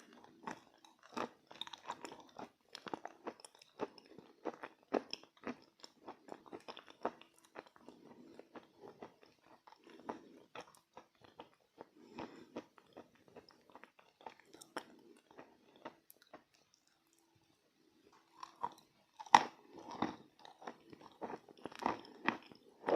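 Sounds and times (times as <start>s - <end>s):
crunchy chewing: 0.0s - 22.9s.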